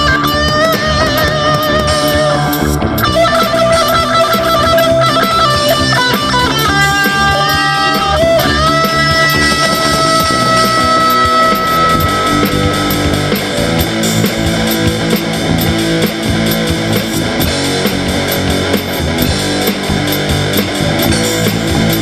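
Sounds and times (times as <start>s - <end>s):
bass: 0.0s - 22.0s
electric guitar lead: 0.0s - 22.0s
steady drum beat: 0.0s - 22.0s.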